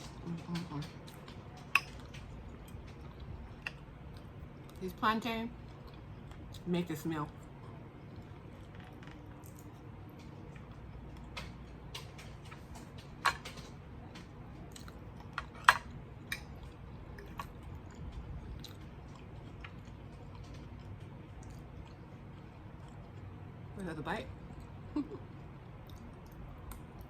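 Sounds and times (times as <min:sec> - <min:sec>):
chewing: 0:00.0 - 0:04.8, 0:05.6 - 0:06.7, 0:07.3 - 0:23.6, 0:24.4 - 0:27.0.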